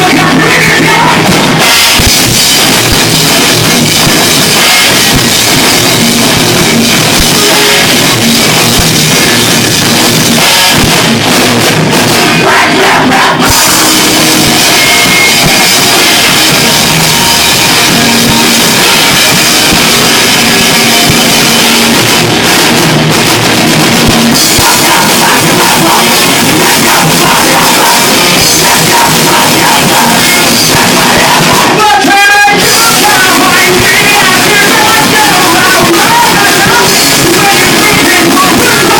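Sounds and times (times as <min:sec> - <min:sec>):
pounding drum kit and cymbals: 0:00.0 - 0:38.9
rock band playing live: 0:00.0 - 0:38.9.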